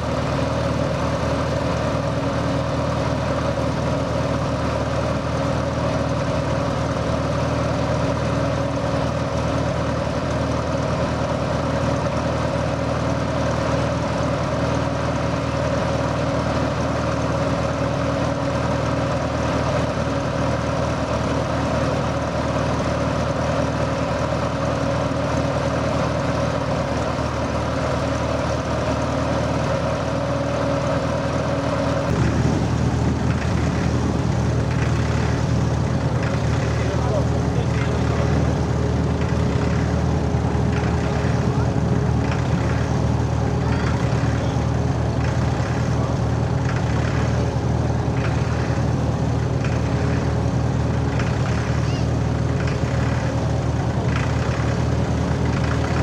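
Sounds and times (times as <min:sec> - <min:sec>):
louder engine sound: 0:00.0 - 0:56.0
tractor engine idling: 0:00.0 - 0:56.0.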